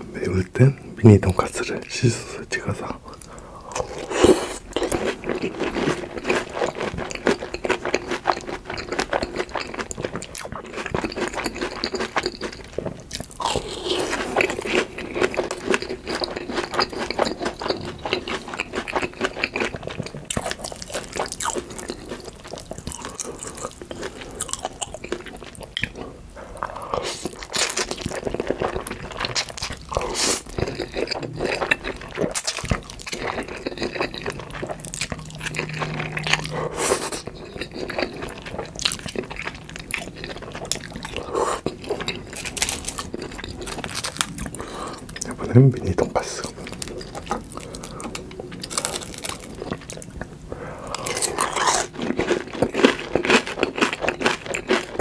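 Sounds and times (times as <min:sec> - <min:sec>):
crunchy bites and chewing: 0:03.8 - 0:26.0, 0:26.6 - 0:45.4, 0:46.4 - 0:50.2, 0:50.8 - 0:55.0.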